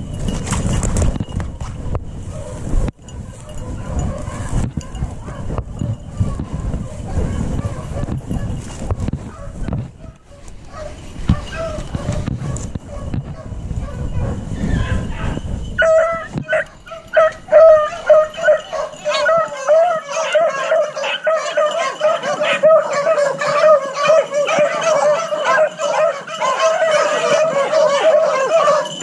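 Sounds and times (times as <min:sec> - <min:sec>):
hounds baying: 0:01.6 - 0:29.0.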